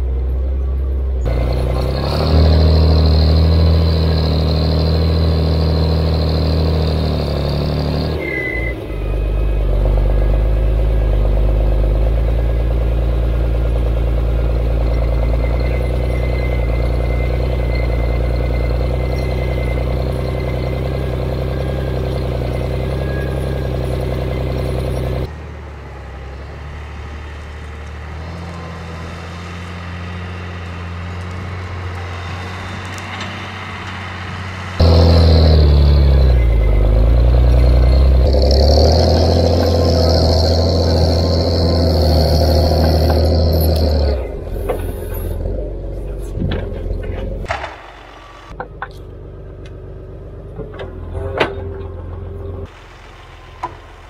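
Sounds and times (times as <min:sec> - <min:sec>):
engine running under load: 0:00.0 - 0:54.0.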